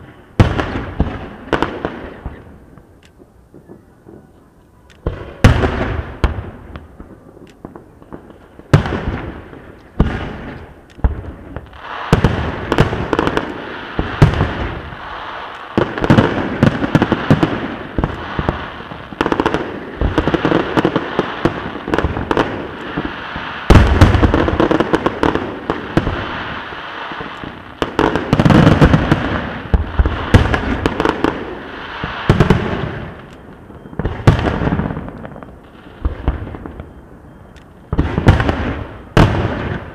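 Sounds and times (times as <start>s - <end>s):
firework bangs: 0.0s - 39.9s
fireworks bursting with booms: 0.0s - 39.9s.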